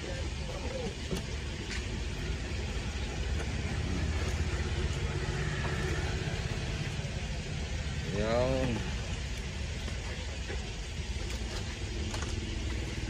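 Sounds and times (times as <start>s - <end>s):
low engine-like rumble: 0.0s - 13.0s.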